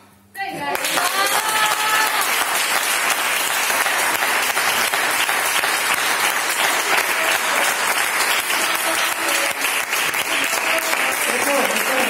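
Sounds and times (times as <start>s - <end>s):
audience applause: 0.7s - 12.0s.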